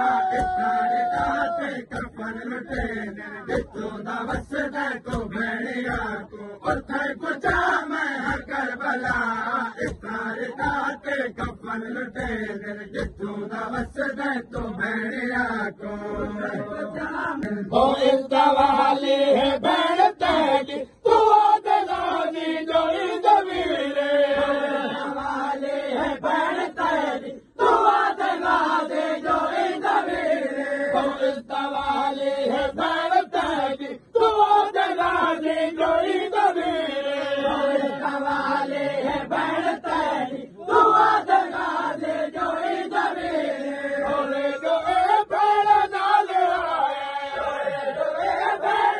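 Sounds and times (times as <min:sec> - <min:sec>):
group of men chanting a lament: 0:00.0 - 0:48.9.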